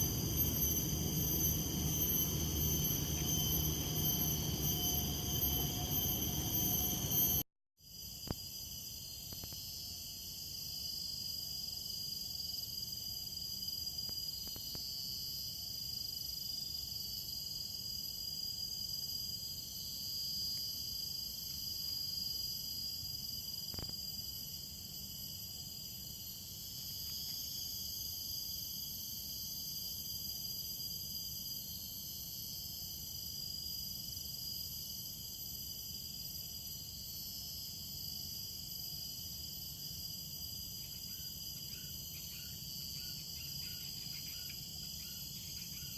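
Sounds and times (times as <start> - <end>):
insects chirring: 0.0 - 45.9.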